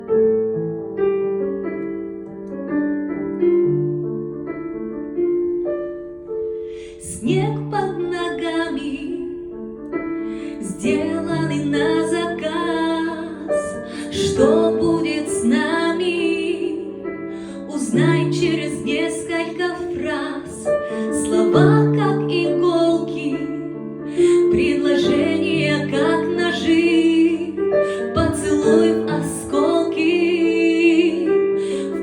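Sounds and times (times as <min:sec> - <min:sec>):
slow piano ballad: 0:00.0 - 0:32.0.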